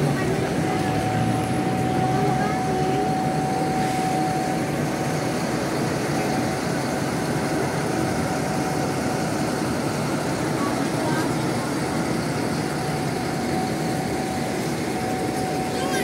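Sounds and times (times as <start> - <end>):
diesel bus engine idling: 0.0 - 16.0.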